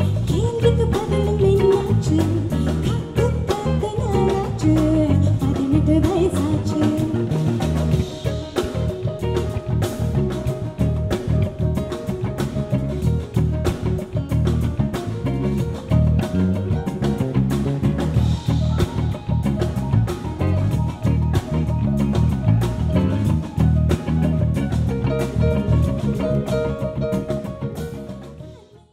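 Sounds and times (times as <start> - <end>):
electric bass groove: 0.0 - 28.7
drum kit: 0.0 - 28.9
keyboards: 0.0 - 28.9.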